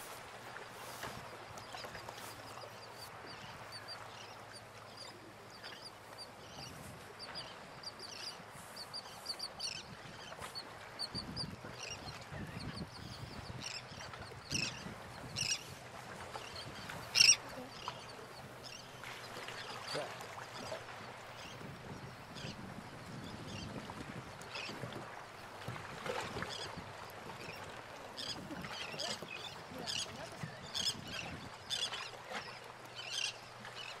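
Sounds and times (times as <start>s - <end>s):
birds calling: 0.9s - 22.6s, 26.4s - 34.0s.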